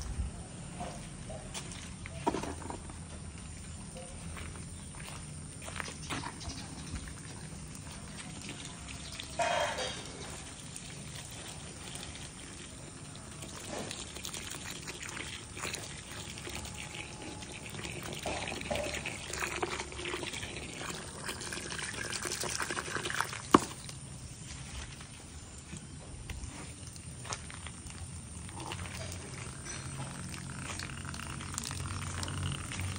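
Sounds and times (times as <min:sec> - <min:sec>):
water trickling: 0:05.4 - 0:25.9, 0:26.6 - 0:32.9.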